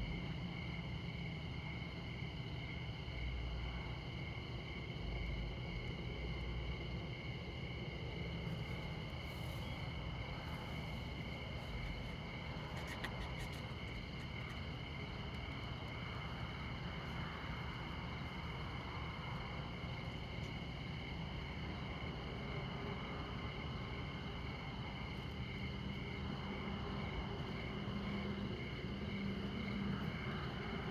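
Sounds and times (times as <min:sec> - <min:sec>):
crickets trilling: 0:00.0 - 0:30.9
distant highway traffic rumble: 0:00.0 - 0:30.9.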